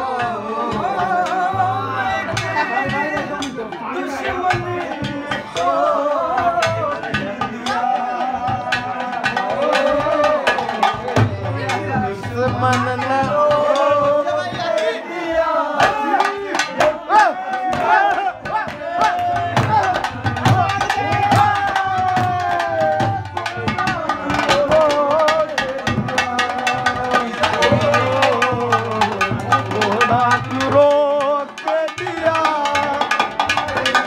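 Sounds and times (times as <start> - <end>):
folk drums fast rhythm: 0.0 - 34.0.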